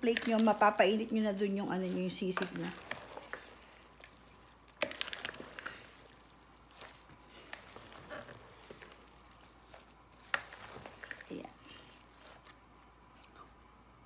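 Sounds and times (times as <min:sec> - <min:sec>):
wet squishing of food mixing: 0:00.0 - 0:13.8.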